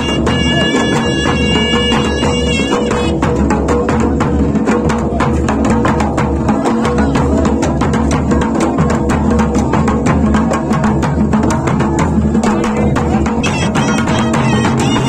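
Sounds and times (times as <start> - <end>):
folk drums beaten with sticks: 0.0 - 15.0.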